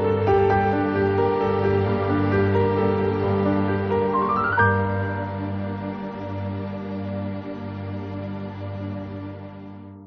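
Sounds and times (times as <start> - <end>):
soft piano: 0.0 - 10.0.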